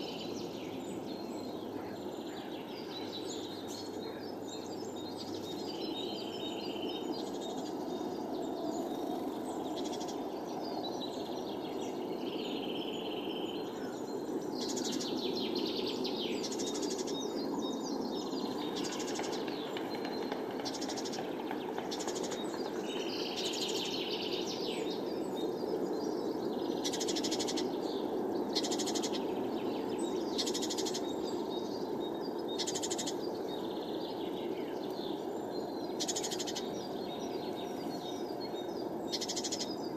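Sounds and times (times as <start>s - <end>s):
low background rush: 0.0s - 39.9s
songbirds trilling and whistling: 0.0s - 39.9s.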